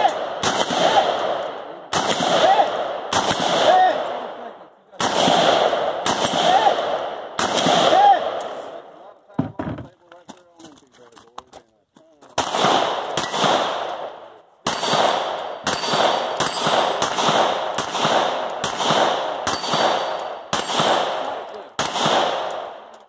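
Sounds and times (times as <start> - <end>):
pistol shots: 0.0 - 8.6, 12.3 - 23.0.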